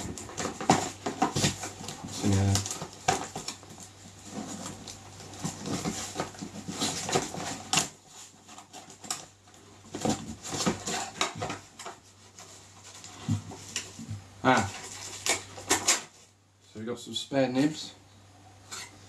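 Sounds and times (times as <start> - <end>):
cardboard rustling and scraping: 0.0 - 16.3.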